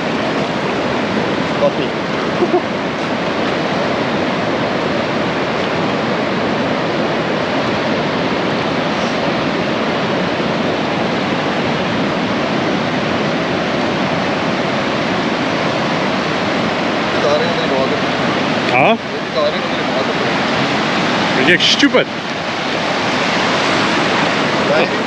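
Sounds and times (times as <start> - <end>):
surf breaking on beach: 0.0 - 25.0.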